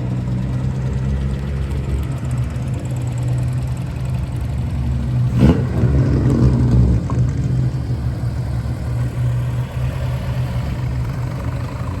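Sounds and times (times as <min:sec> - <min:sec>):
car exhaust idling: 0:00.0 - 0:12.0.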